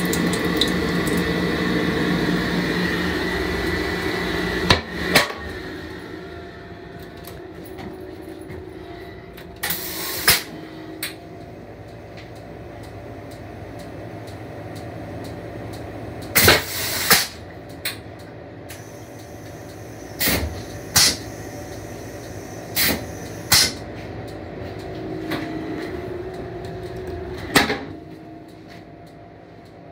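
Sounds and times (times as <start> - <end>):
steady hum: 0.0 - 29.9.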